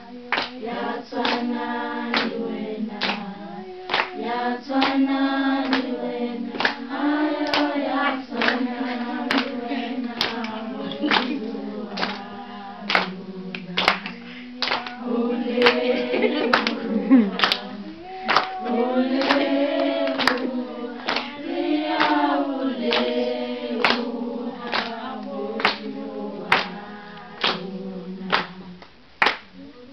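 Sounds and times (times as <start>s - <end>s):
women singing a hymn: 0.0s - 29.9s
hand clapping: 0.3s - 2.4s, 3.0s - 12.3s, 12.9s - 15.0s, 15.6s - 24.1s, 24.7s - 25.9s, 26.5s - 27.7s, 28.3s - 29.5s.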